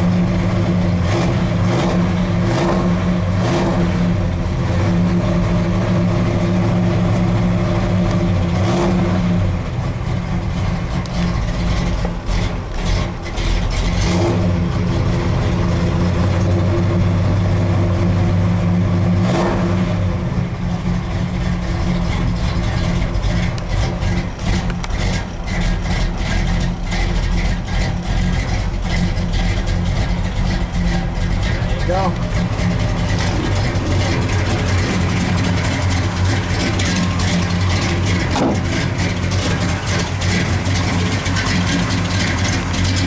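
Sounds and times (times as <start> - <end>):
pickup engine idling: 0.0 - 43.0.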